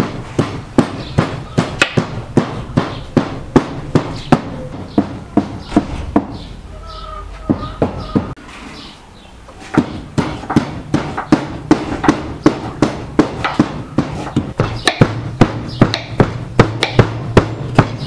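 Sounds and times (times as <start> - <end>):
cleaver chopping meat on wood: 0.0 - 6.4, 9.7 - 18.0.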